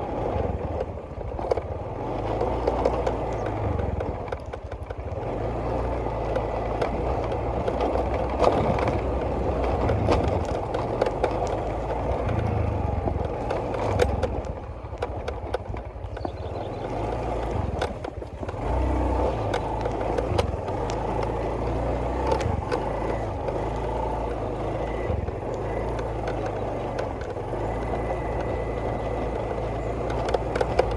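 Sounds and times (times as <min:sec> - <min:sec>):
vehicle engine rumble: 0:00.0 - 0:30.9
small clicks and rattles: 0:00.2 - 0:30.9.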